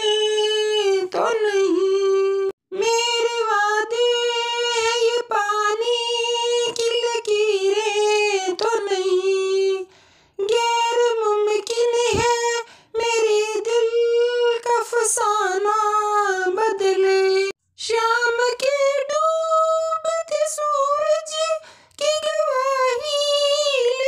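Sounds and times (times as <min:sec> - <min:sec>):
high voice singing wordless melody: 0:00.0 - 0:24.0.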